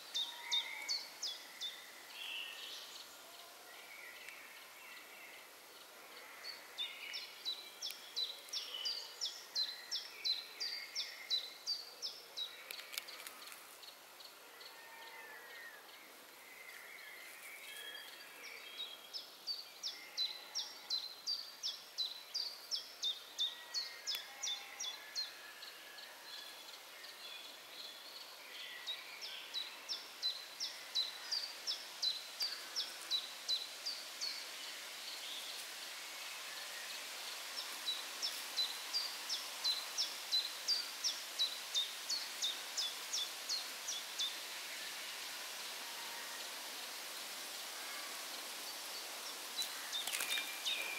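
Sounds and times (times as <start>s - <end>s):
faint hiss: 0.0s - 50.9s.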